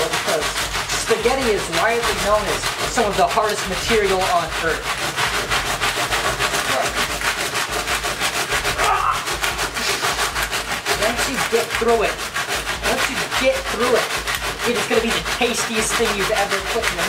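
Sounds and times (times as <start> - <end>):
knife sawing through cardboard: 0.0 - 17.0.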